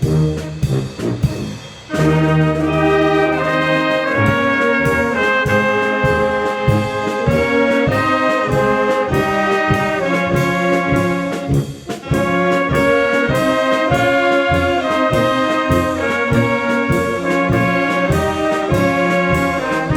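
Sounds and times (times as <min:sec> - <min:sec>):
brass band playing polka: 0:00.0 - 0:19.9
trumpets and trombones melody: 0:00.0 - 0:19.9.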